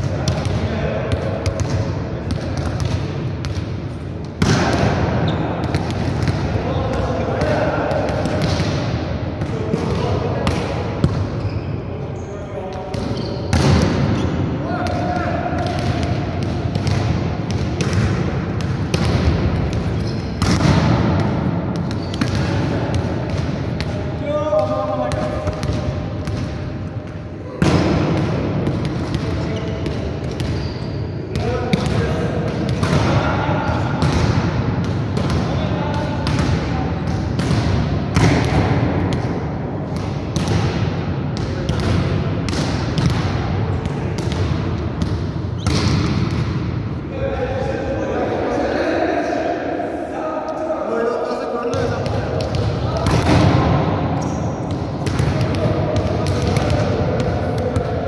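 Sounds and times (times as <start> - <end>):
volleyballs thudding on hard court: 0.0 - 11.4, 12.7 - 30.6, 31.3 - 46.7, 51.7 - 54.0, 54.6 - 58.0.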